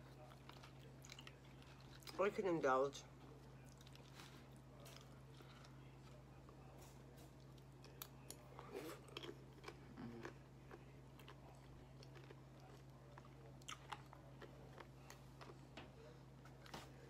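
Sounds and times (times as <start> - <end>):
steady low hum: 0.0 - 17.0
chewing crunchy chips: 0.1 - 2.4, 3.2 - 15.8.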